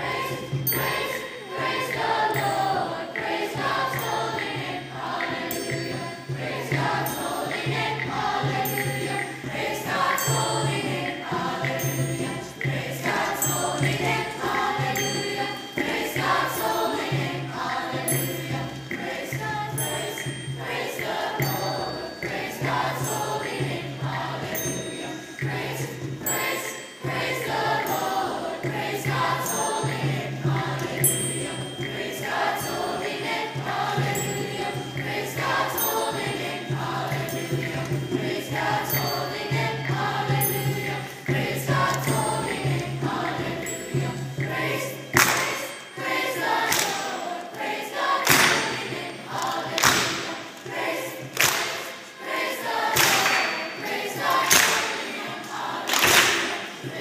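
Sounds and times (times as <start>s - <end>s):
choir singing: 0.0s - 57.0s
people clapping along: 0.0s - 57.0s.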